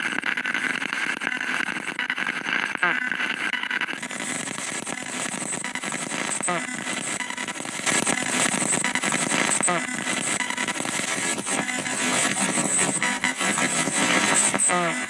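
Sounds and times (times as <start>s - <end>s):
radio static sweeping: 0.0s - 15.0s.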